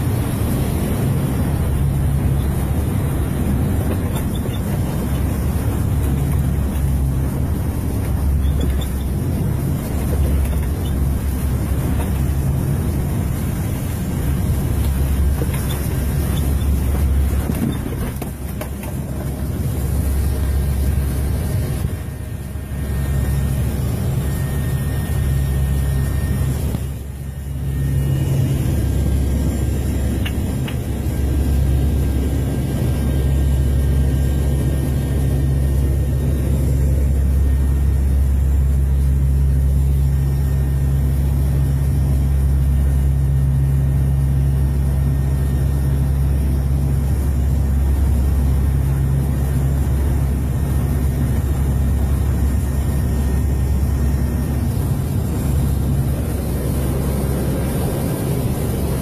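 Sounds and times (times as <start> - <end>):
aircraft engines droning: 0.0 - 59.0.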